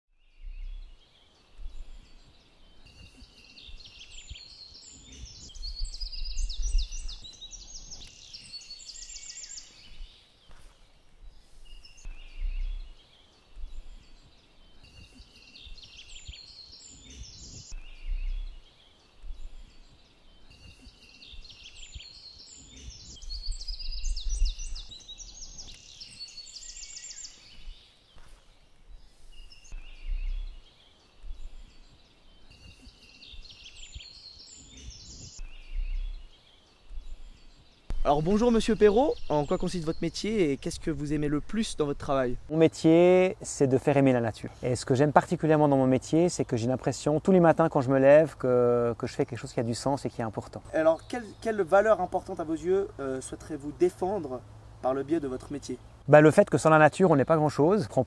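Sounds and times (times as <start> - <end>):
songbirds singing: 0.1 - 58.0.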